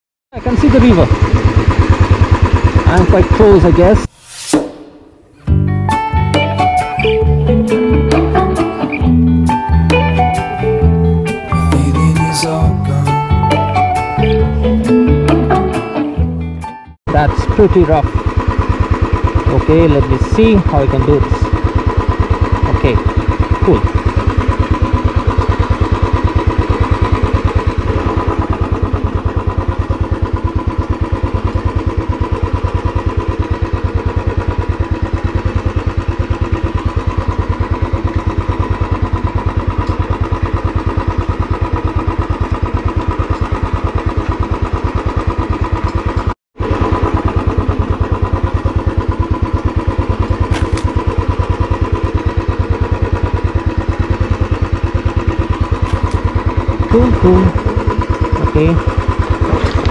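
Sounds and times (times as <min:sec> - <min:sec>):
motorcycle engine running: 0:00.3 - 0:04.2, 0:04.8 - 0:59.9.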